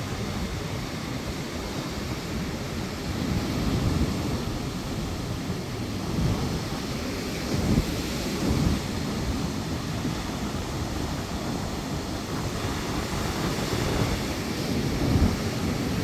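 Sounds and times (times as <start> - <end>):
storm wind: 0.0 - 16.0
waves breaking: 0.0 - 16.0
wind buffeting microphone: 0.0 - 16.0.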